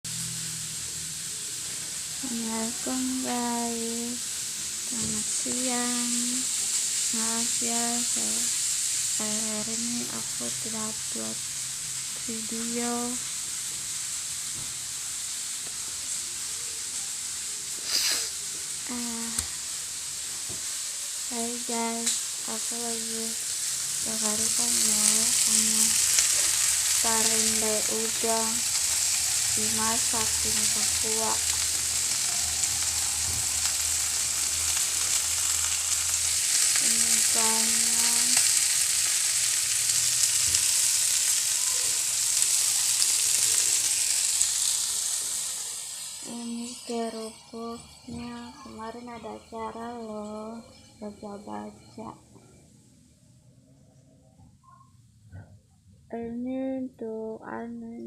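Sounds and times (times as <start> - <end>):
food sizzling: 0.0 - 53.0.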